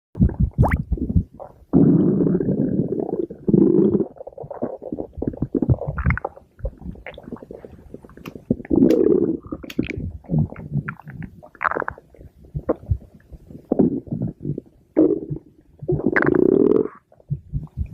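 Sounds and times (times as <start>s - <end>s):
stomach growling: 0.2s - 17.9s.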